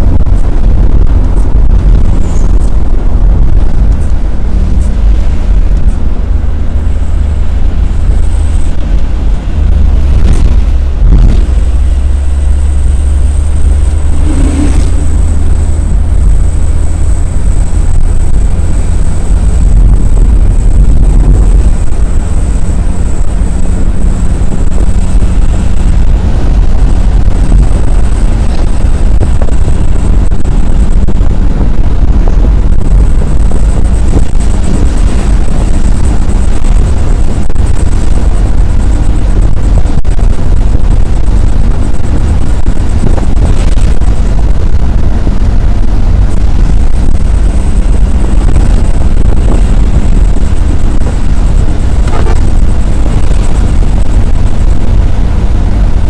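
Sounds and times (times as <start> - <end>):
vehicle rumble on highway: 0.0 - 56.0
wind buffeting microphone: 0.0 - 56.0.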